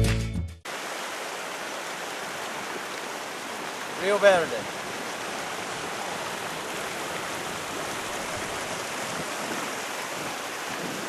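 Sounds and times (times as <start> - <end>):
river water rushing: 0.7 - 11.0.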